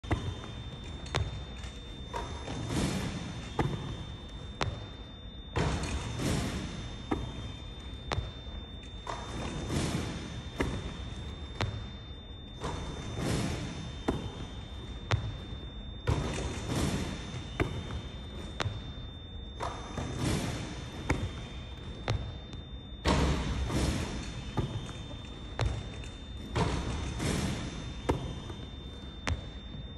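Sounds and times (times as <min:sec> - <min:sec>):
basketball bouncing in a gym: 0:00.0 - 0:29.9.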